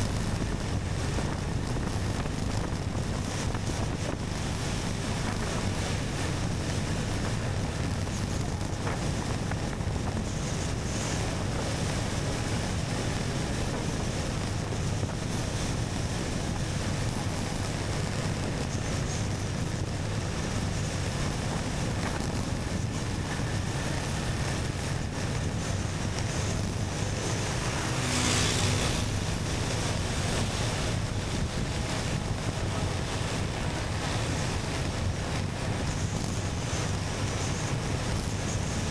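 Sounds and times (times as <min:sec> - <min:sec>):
motorcycle engine drone: 0:00.0 - 0:38.9
wind rushing over microphone: 0:00.0 - 0:38.9.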